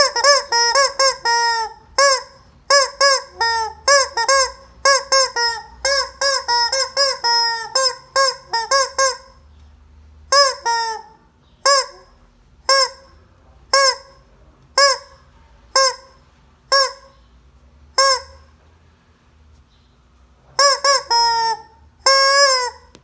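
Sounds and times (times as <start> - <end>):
rubber chicken toy squawking: 0.0 - 9.4, 10.3 - 17.2, 18.0 - 18.6, 20.6 - 23.0.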